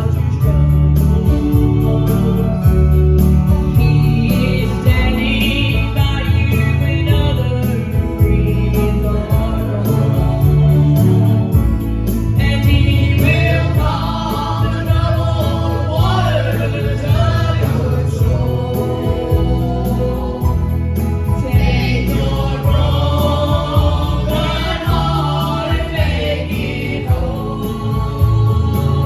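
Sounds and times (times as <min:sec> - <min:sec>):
group singing gospel in harmony: 0:00.0 - 0:29.0
instrumental accompaniment: 0:00.0 - 0:29.0.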